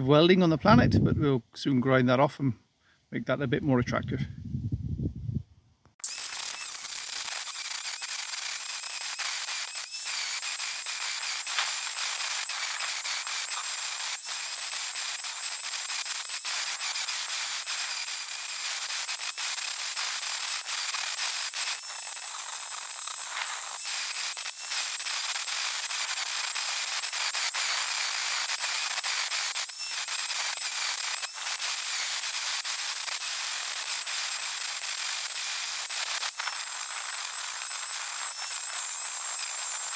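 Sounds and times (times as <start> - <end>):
angle grinder grinding steel: 6.0 - 39.9.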